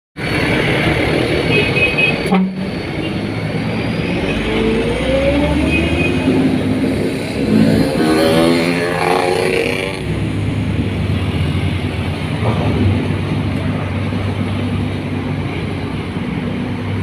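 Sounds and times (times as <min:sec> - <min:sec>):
road and traffic noise: 0:00.2 - 0:17.0
truck engine revving: 0:02.1 - 0:17.0.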